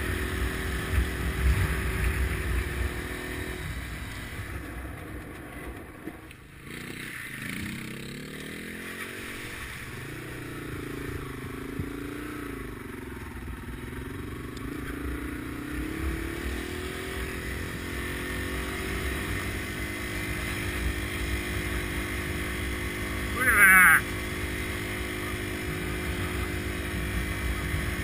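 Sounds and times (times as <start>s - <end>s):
motorcycle engine revving: 0.0s - 28.0s
wind and road rumble: 0.0s - 28.0s.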